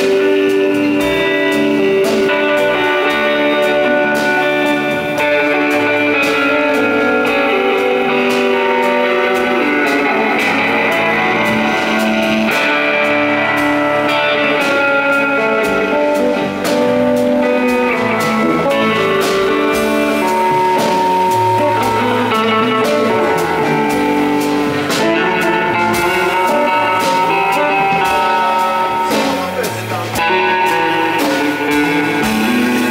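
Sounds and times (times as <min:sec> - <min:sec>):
bass guitar: 0:00.0 - 0:32.9
drum kit and cymbals: 0:00.0 - 0:32.9
electric guitar notes: 0:00.0 - 0:32.9.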